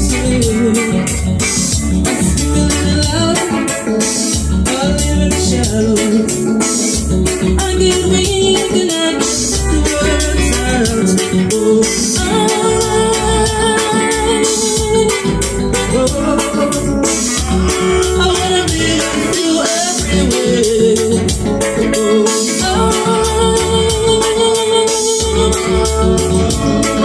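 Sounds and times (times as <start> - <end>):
woman singing into a microphone: 0.0 - 1.4, 2.1 - 27.0
live band music: 0.0 - 27.0.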